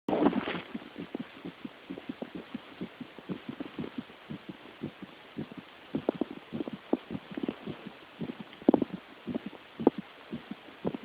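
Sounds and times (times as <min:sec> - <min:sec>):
fast heartbeat through stethoscope: 0:00.1 - 0:11.0
steady hiss: 0:00.1 - 0:11.0.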